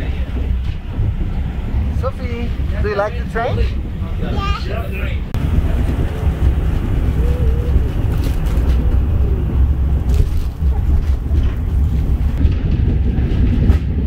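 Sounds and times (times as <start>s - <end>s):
train running gear rumbling: 0.0s - 14.0s.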